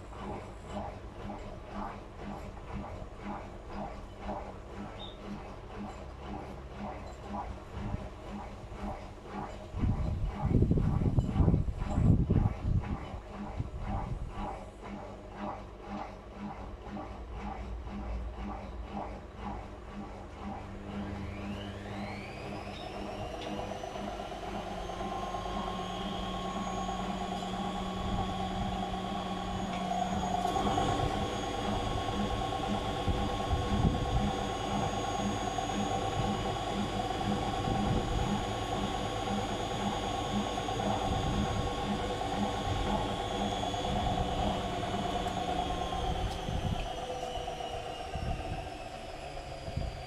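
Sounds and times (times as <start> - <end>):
low pulsing beat: 0.0 - 47.6
washing machine spinning: 0.0 - 50.0.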